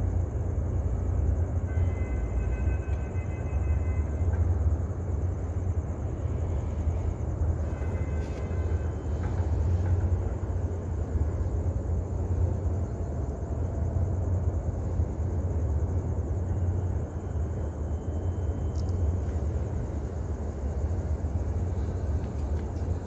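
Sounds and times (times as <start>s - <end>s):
ship engine rumble: 4.2s - 23.0s.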